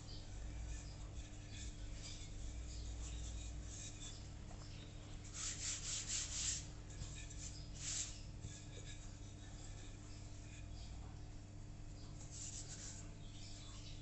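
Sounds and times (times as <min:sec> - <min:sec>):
hand brushing dough: 0:00.0 - 0:11.4, 0:12.0 - 0:13.8
rolling pin rolling over dough: 0:00.0 - 0:13.4
low steady hum: 0:00.0 - 0:14.0.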